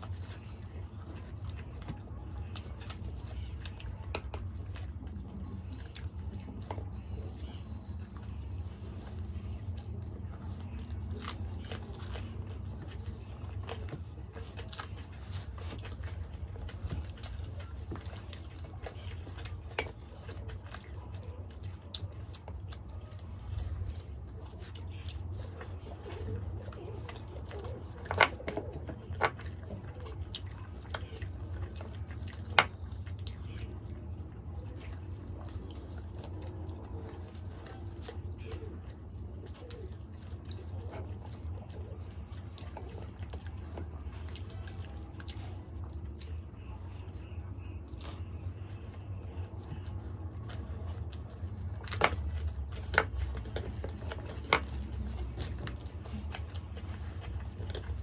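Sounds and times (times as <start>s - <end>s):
chewing and wet mouth noises: 0.0s - 58.0s.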